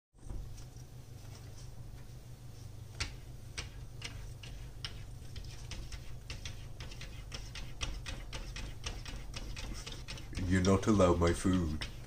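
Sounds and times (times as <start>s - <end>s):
steady low hum: 0.2s - 12.0s.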